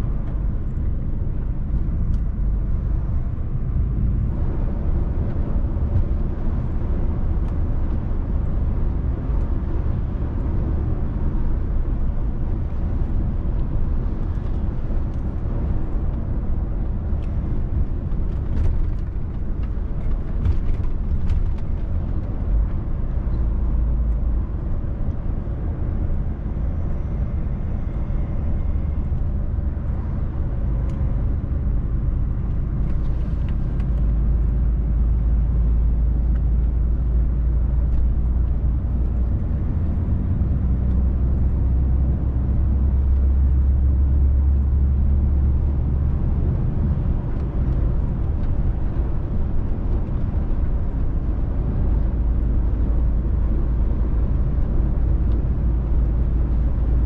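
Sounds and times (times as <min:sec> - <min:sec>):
road noise: 0:00.0 - 0:57.0
truck diesel engine droning: 0:00.0 - 0:57.0.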